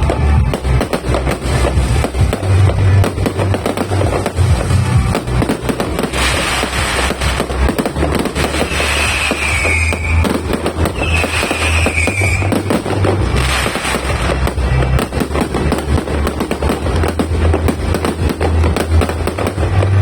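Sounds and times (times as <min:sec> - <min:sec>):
fireworks bangs and crackles: 0:00.0 - 0:20.0
fireworks whistles: 0:00.0 - 0:20.0
music with deep bass: 0:00.0 - 0:20.0.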